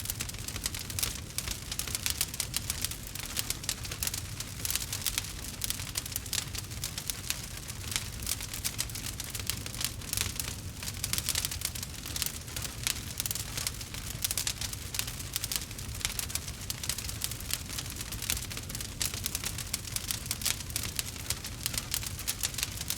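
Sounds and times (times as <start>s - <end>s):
campfire crackling: 0.0s - 22.9s
low rumble of burning: 0.0s - 22.9s.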